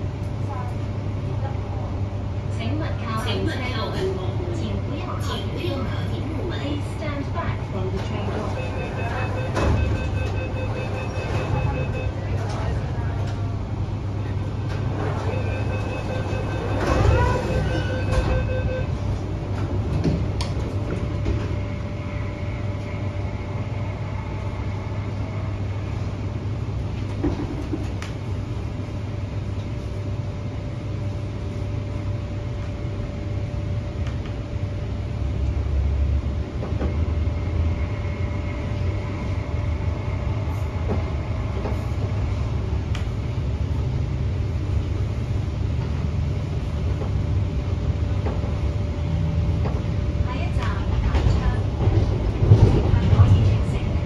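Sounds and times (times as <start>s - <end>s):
train interior rumble: 0.0s - 54.0s.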